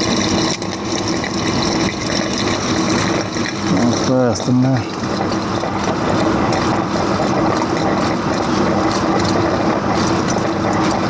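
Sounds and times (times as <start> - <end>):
motor humming with rushing noise: 0.0 - 11.0.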